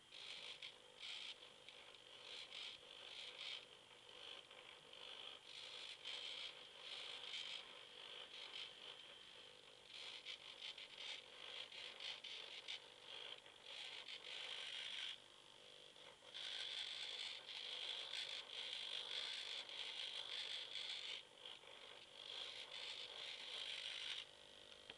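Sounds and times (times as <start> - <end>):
small servo motors whirring: 0.0 - 24.9.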